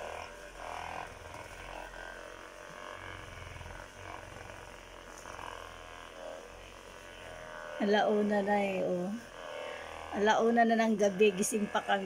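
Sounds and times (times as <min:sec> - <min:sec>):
massage gun motor buzzing: 0:00.0 - 0:12.0.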